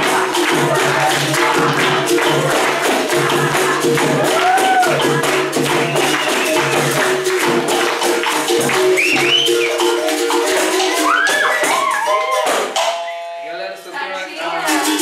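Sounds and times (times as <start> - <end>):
hand clapping: 0.0 - 13.0
berimbaus playing: 0.0 - 13.7.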